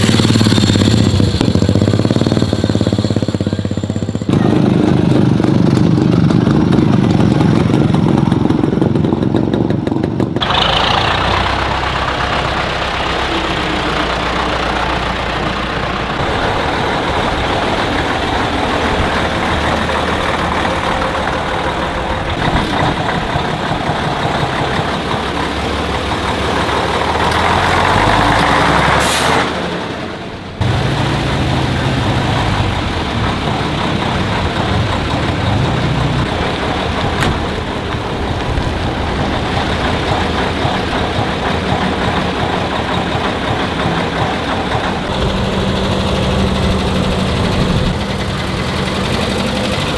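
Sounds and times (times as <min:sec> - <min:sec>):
tractor and truck engines: 0:00.0 - 0:49.9.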